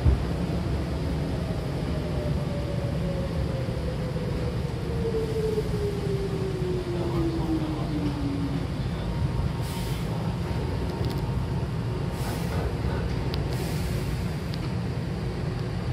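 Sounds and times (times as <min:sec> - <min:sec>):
wheels rumbling on rail: 0:00.0 - 0:15.9.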